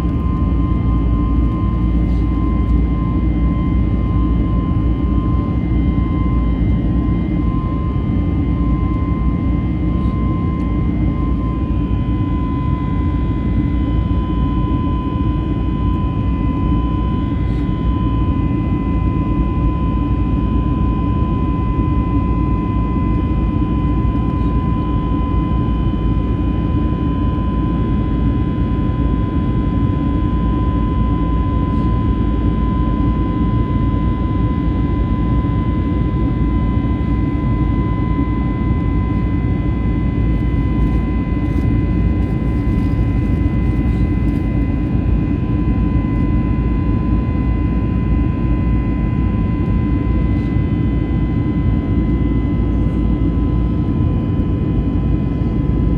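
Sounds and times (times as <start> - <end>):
aircraft cabin engine rumble: 0.0 - 55.9
constant high hum: 0.0 - 55.9.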